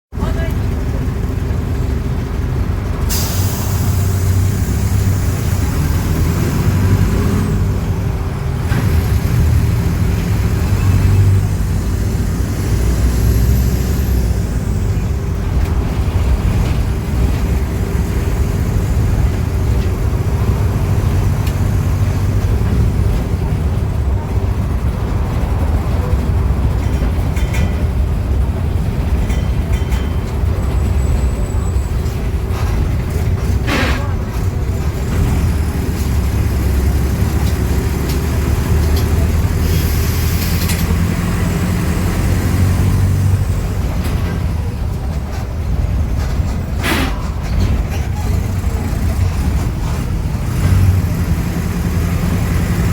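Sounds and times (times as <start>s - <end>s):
bus diesel engine droning: 0.1s - 52.9s.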